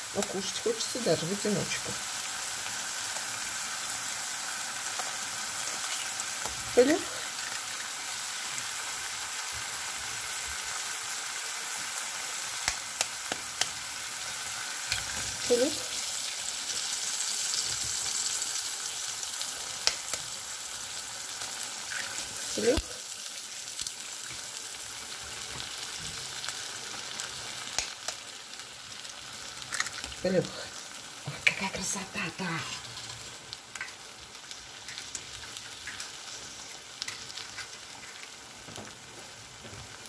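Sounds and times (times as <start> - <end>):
eggs sizzling in a frying pan: 0.0 - 40.0.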